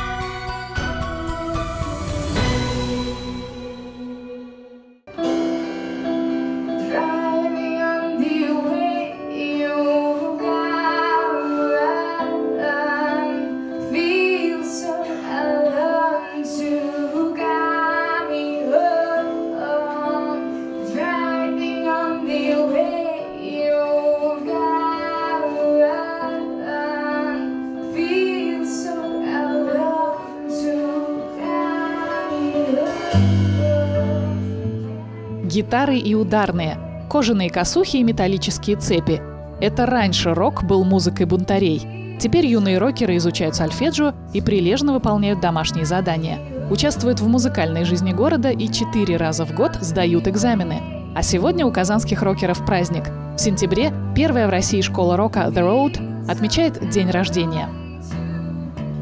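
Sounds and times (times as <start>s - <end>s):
woman singing slow melody: 6.4s - 59.0s.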